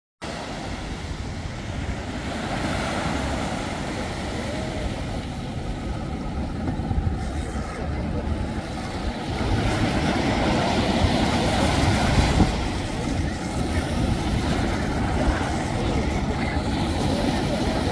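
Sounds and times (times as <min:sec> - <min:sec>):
small waves washing ashore: 0:00.2 - 0:17.9
wind buffeting microphone: 0:00.3 - 0:17.9.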